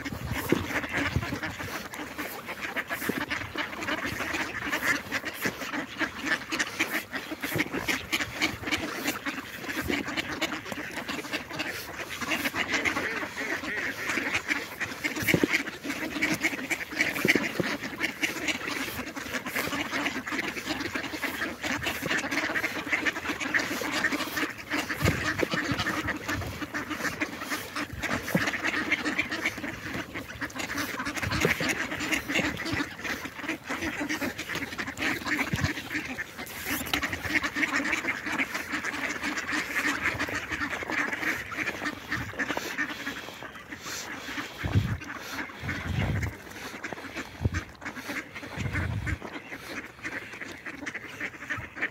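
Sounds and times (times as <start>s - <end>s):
ducks quacking: 0.0s - 51.9s.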